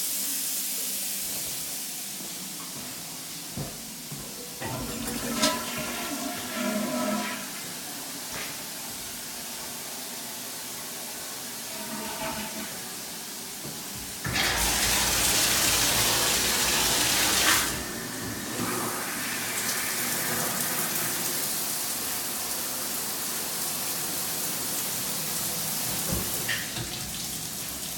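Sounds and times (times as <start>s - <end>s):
water running from a fixture: 0.1s - 27.9s.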